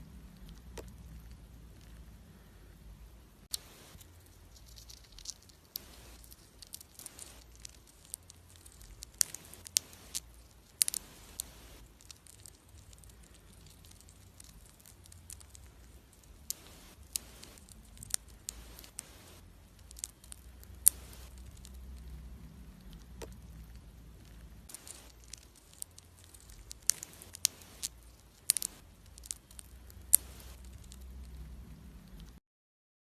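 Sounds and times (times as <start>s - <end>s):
hamster nibbling seeds: 0.0s - 32.4s
seed shells cracking: 3.5s - 32.4s.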